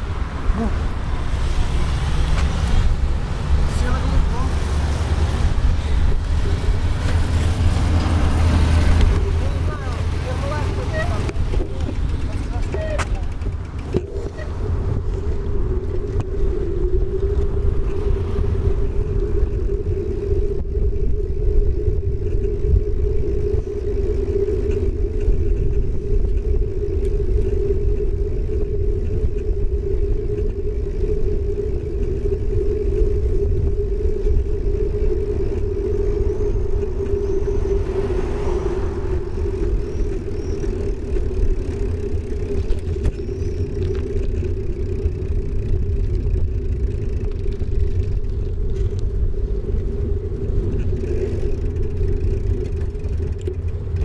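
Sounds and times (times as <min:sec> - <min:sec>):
bicycle tyre rolling on asphalt: 0:00.0 - 0:54.0
wind buffeting microphone: 0:00.0 - 0:54.0.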